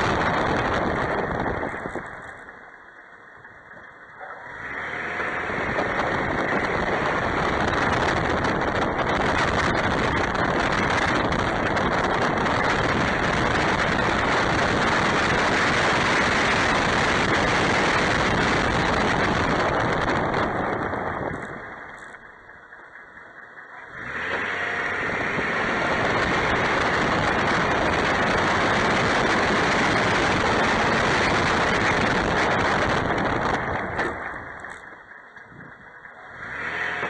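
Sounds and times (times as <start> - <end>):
truck driving: 0.0 - 37.0.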